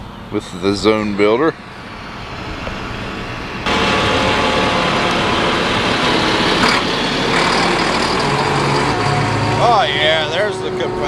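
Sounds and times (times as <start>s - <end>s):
tractor engine under load: 0.0s - 11.0s.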